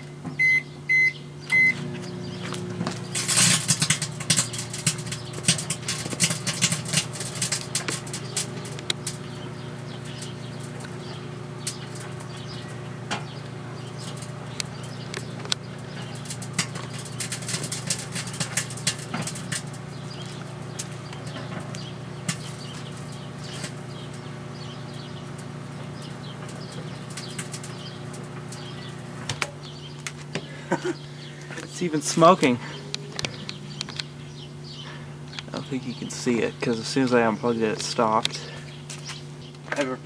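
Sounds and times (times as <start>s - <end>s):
microwave oven humming: 0.0s - 40.0s
arcing crackles and snaps: 2.0s - 30.4s, 31.4s - 40.0s.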